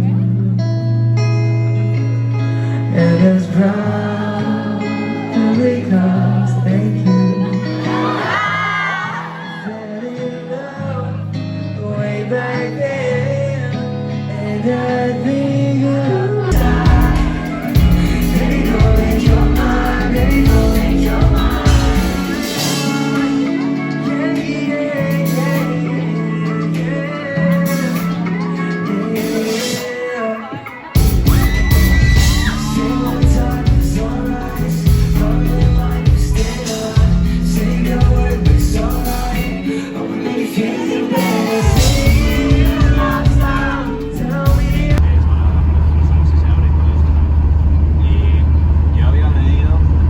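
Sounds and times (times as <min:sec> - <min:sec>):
pop music with sung vocal: 0:00.0 - 0:45.2.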